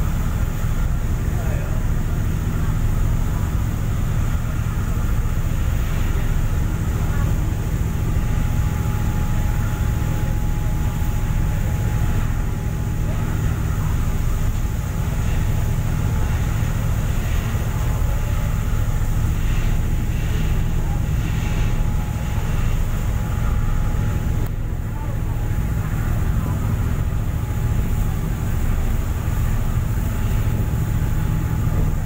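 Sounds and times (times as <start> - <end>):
ship engine rumble: 0.0 - 32.0.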